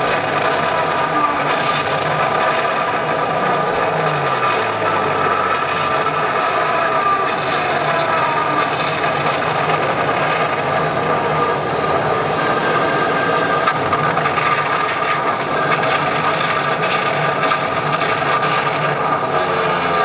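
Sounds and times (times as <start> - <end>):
ship engine-room drone: 0.0 - 20.0.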